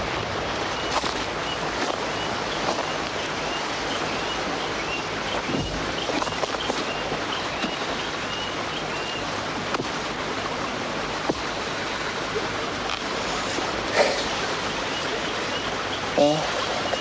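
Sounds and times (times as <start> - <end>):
hissing outdoor ambience: 0.0 - 17.0.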